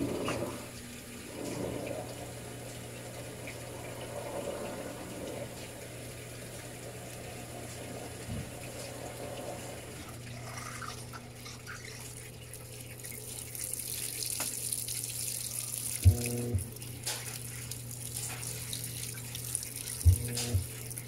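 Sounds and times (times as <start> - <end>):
washing machine humming thumps: 0.0 - 10.7, 11.3 - 21.0
water pouring into washing machine: 0.0 - 21.0.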